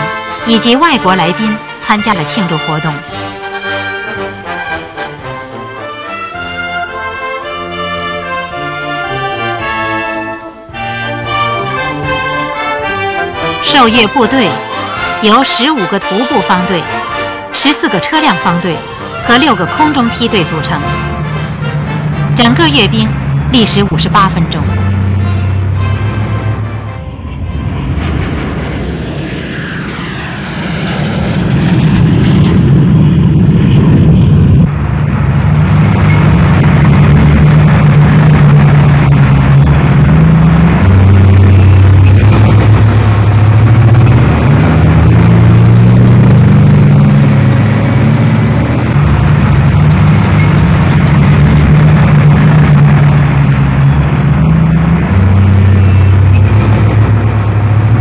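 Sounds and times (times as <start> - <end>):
tanks rumbling past: 0.0 - 58.0.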